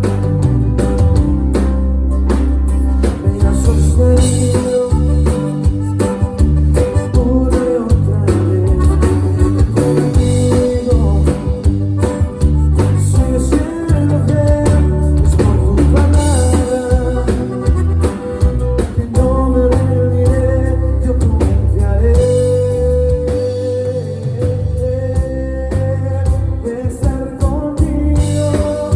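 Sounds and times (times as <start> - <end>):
bass: 0.0 - 28.9
drum kit: 0.0 - 28.9
guitar: 0.0 - 28.9.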